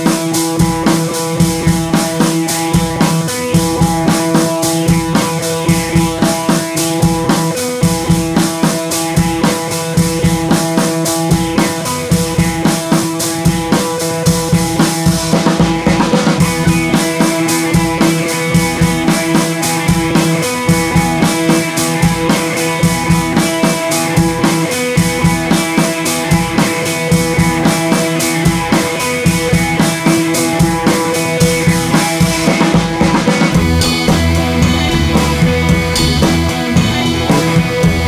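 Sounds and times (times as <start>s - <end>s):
music with drum beat: 0.0s - 38.0s.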